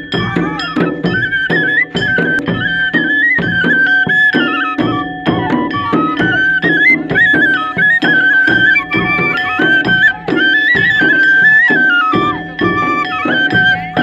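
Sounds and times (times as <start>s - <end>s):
high melody line: 0.0s - 14.0s
steady drumbeat: 0.0s - 14.0s.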